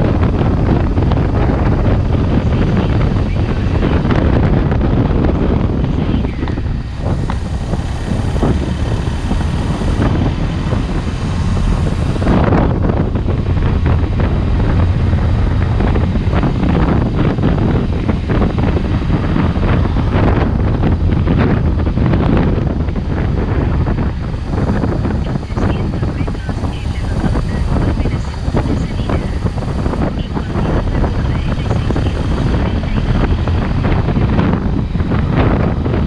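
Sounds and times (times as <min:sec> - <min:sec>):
motorcycle engine: 0:00.0 - 0:36.0
road noise: 0:00.0 - 0:36.0
wind buffeting microphone: 0:00.0 - 0:36.0.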